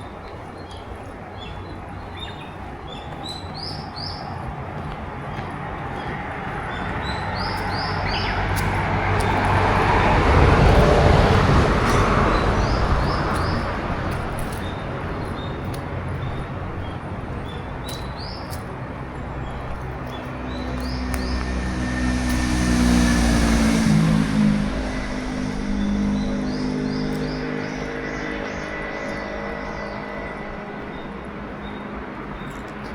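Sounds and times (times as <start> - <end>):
small birds chirping: 0.0 - 10.0, 10.6 - 22.4, 24.8 - 32.9
low engine hum: 0.0 - 32.9
road vehicle passing: 0.0 - 32.9.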